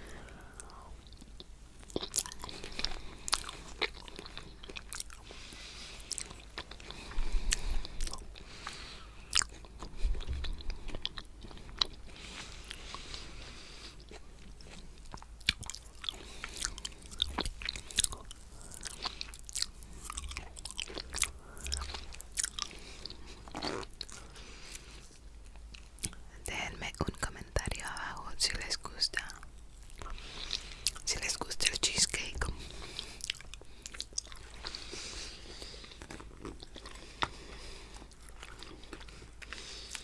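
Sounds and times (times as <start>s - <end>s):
chewing with wet mouth clicks: 0.1s - 27.9s, 28.5s - 40.0s.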